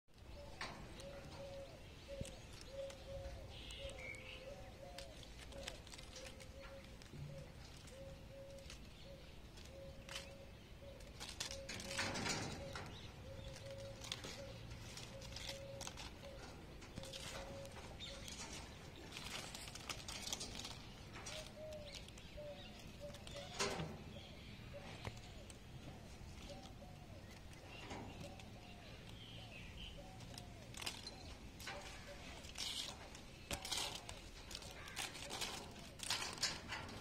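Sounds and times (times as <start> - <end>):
cats clawing wire-mesh cage: 0.1 - 24.1, 29.9 - 37.0
cage rattling rustle: 0.1 - 37.0.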